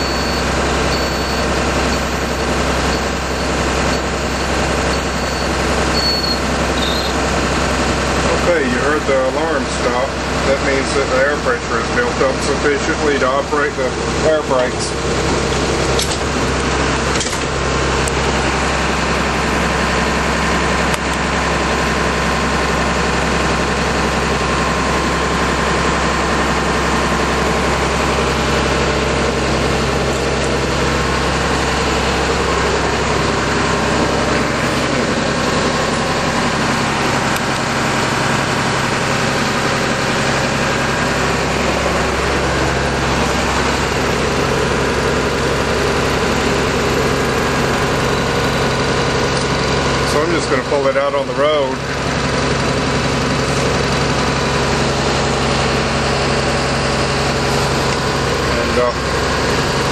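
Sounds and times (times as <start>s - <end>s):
diesel bus engine idling: 0.0s - 59.9s.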